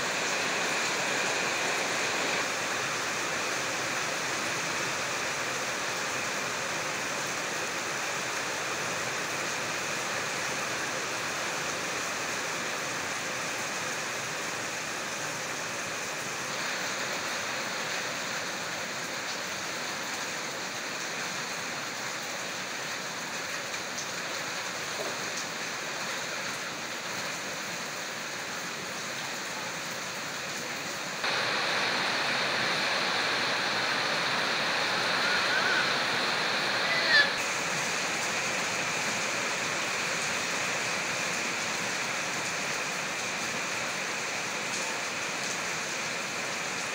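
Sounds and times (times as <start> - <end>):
heavy rain on a metal roof: 0.0 - 46.9.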